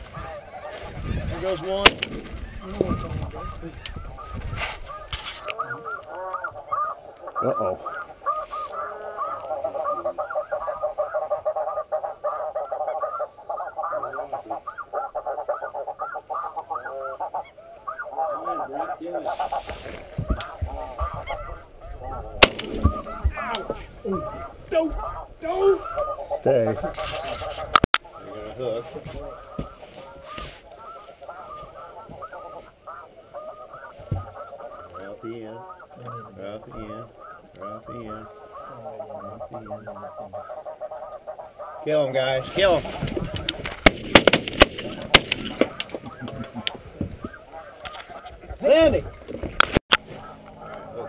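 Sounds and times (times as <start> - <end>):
geese honking: 0.0 - 51.0.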